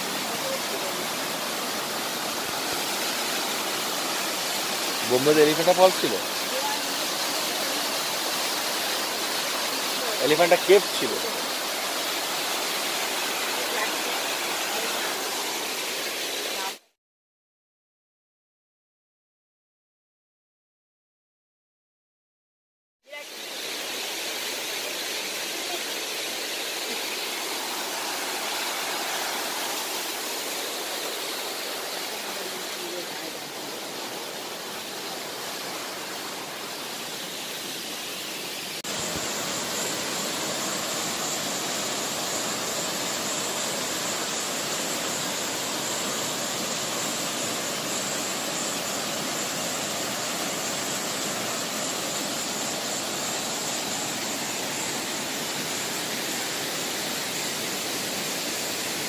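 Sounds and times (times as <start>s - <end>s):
waterfall cascading: 0.0s - 16.9s, 23.1s - 59.0s.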